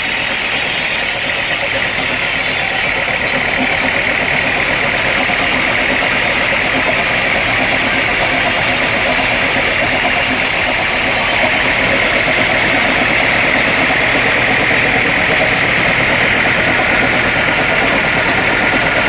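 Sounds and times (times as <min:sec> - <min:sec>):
sawmill machinery drone: 0:00.0 - 0:19.0.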